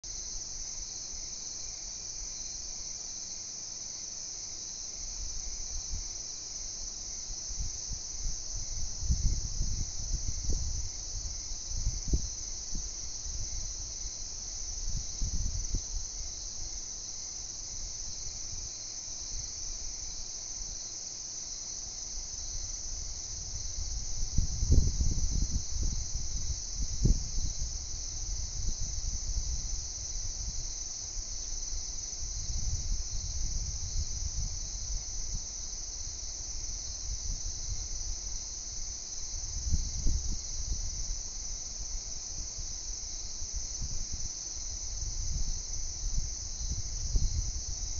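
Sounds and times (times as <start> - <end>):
crickets chirring: 0.0 - 47.9.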